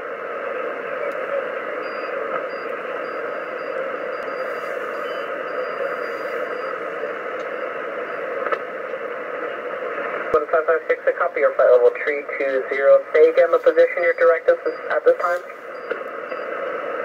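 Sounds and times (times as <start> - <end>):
radio receiver static hiss: 0.0 - 17.0.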